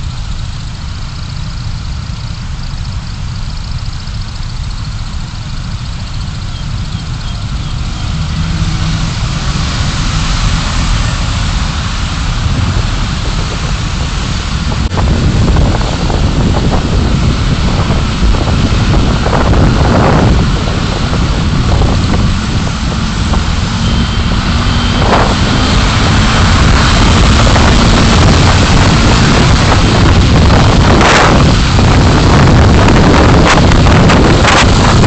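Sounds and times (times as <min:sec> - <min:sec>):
car engine rumble: 0:00.0 - 0:35.0
wind noise: 0:00.0 - 0:35.0.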